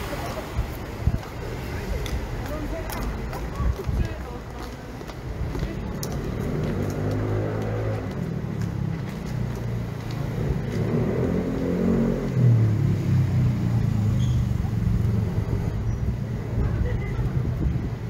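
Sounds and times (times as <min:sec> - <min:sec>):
car engines passing: 0:00.0 - 0:18.0.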